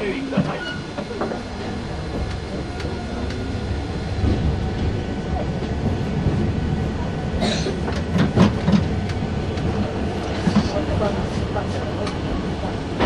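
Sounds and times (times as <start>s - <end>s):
streetcar wheels and motor rumble: 0.0s - 13.0s
wheels clacking on rails: 0.0s - 13.0s.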